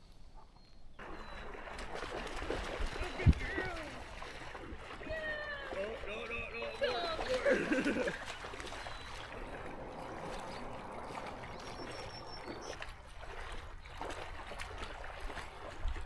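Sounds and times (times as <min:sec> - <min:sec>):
water sloshing and trickling: 0:00.0 - 0:16.0
small splashes: 0:00.1 - 0:16.0.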